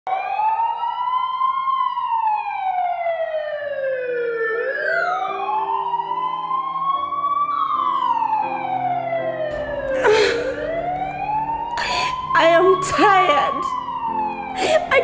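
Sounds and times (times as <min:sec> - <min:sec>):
sirens wailing: 0:00.1 - 0:15.0.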